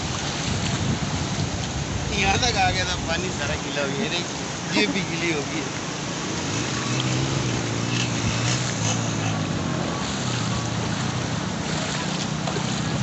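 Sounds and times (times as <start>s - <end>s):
shallow sea water: 0.0s - 13.0s.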